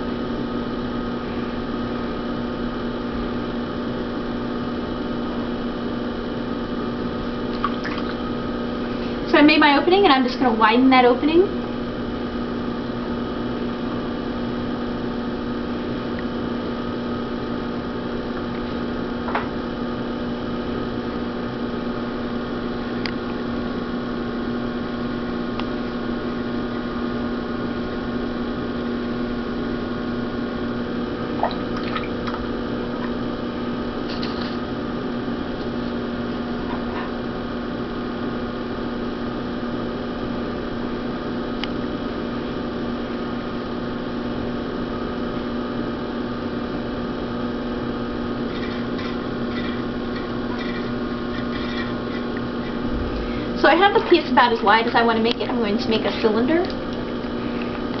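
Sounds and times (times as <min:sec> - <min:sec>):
potter's wheel humming: 0:00.0 - 0:58.0.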